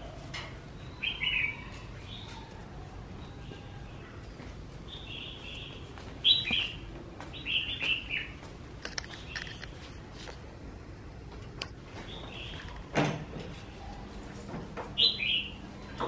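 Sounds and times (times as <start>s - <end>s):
small birds chirping: 0.0s - 10.0s, 11.6s - 12.9s, 13.6s - 16.0s.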